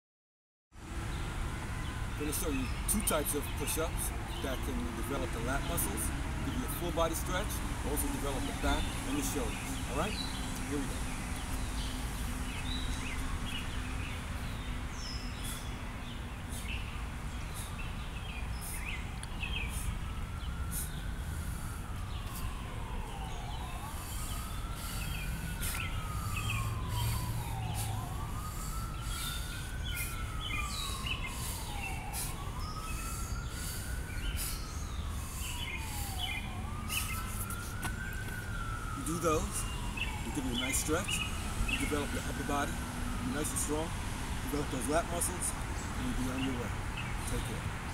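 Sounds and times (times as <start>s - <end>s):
emergency siren wailing: 0.8s - 47.9s
birds chirping: 1.0s - 47.9s.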